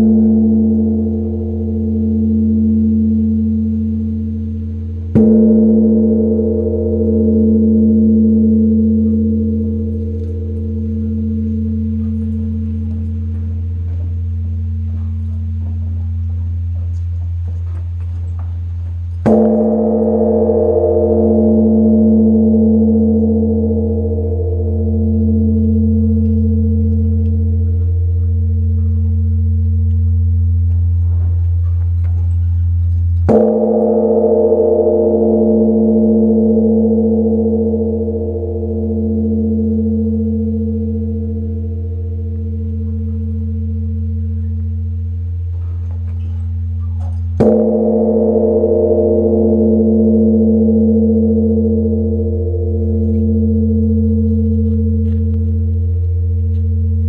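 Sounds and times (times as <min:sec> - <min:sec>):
large bronze bell ringing: 0:00.0 - 0:57.0.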